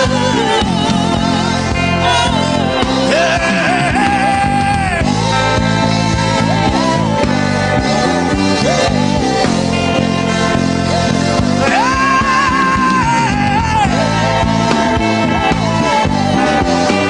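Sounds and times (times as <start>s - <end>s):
worship music with drum beat: 0.0s - 17.0s.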